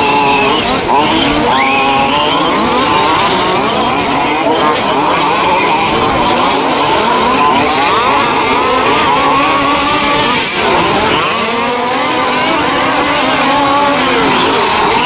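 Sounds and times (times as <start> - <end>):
rc truck engines whining: 0.0 - 15.0.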